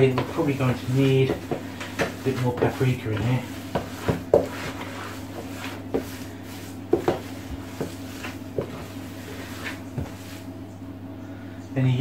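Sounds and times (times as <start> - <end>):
hands kneading wet meat mix: 0.0 - 10.5
low background hum: 0.0 - 12.0.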